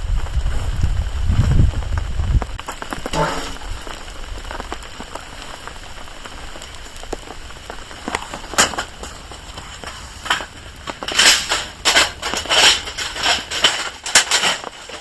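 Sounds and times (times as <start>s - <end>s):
rain pattering on a tarp: 0.0s - 15.0s.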